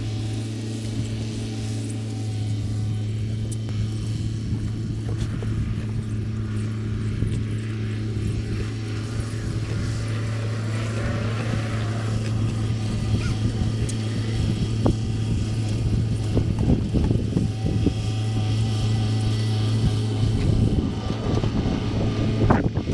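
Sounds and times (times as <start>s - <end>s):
engine humming steadily: 0.0s - 22.9s.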